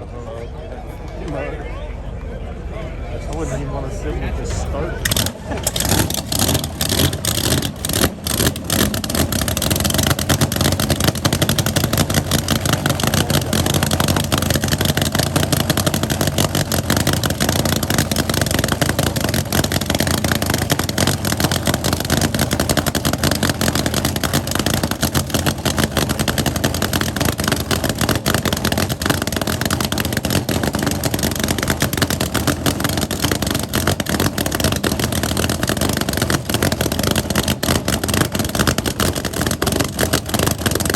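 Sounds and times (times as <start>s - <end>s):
car engine running: 4.3s - 40.9s.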